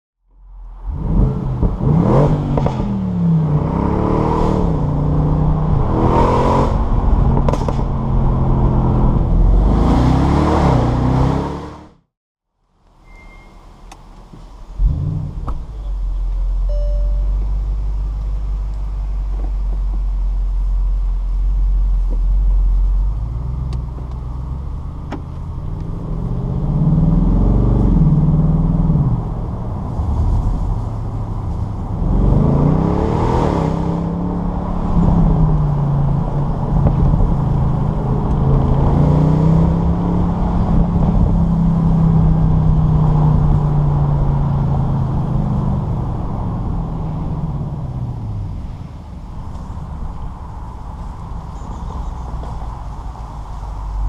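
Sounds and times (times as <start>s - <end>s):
car engine revving: 0.6s - 12.1s, 14.8s - 54.0s.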